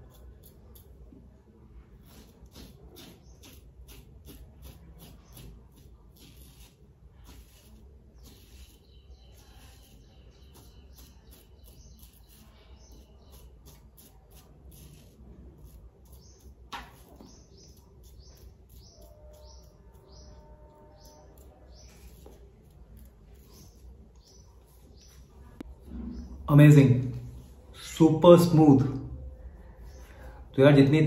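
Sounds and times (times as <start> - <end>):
razor scraping stubble: 0.0 - 26.4.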